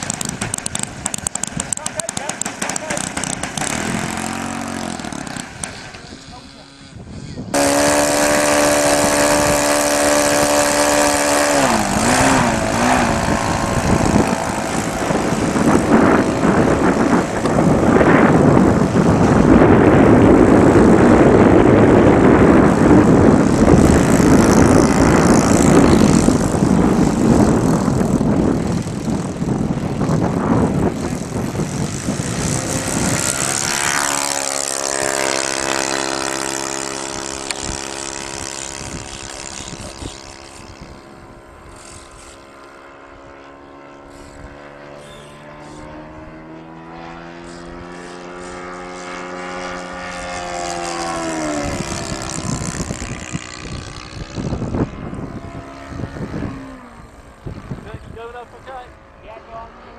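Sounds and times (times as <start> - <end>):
model airplane engine whine: 0.0 - 59.9.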